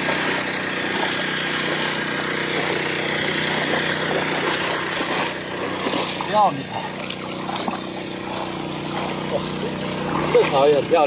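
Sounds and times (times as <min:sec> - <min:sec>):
water pump engine running: 0:00.0 - 0:11.0.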